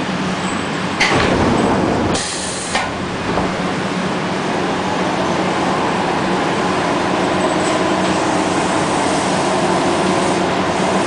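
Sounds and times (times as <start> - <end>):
electric train car hum: 0.0 - 11.0.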